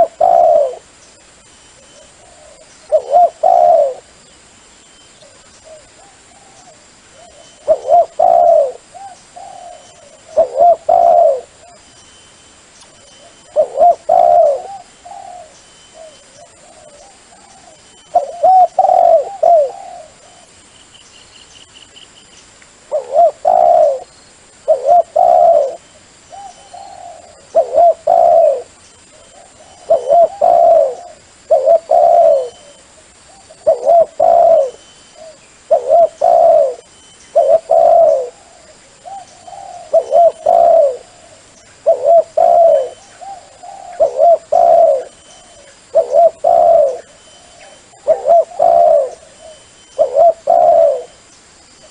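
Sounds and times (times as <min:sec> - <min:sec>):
dove cooing: 0:00.0 - 0:00.9, 0:01.8 - 0:04.2, 0:05.2 - 0:11.9, 0:13.0 - 0:20.6, 0:22.9 - 0:51.2.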